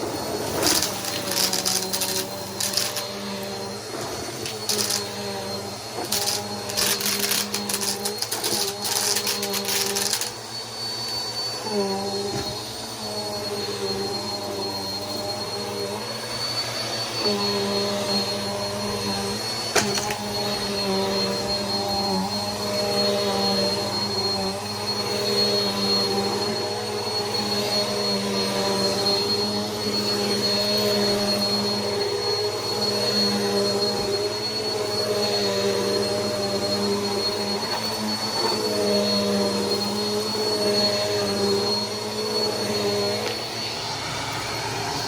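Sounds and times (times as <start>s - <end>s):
vacuum cleaner motor whining: 0.0s - 45.0s.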